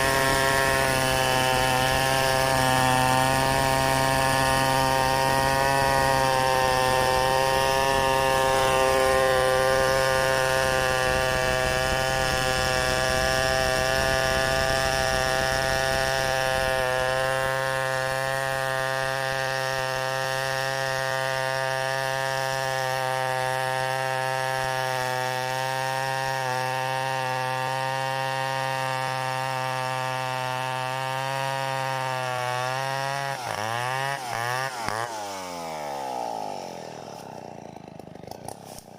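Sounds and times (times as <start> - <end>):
chainsaw cutting: 0.0 - 38.9.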